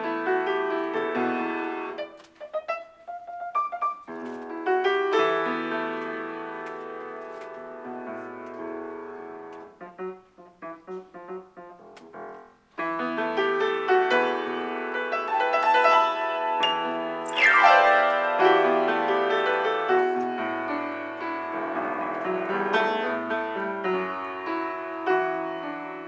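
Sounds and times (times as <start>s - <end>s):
piano improvisation: 0.0s - 26.0s.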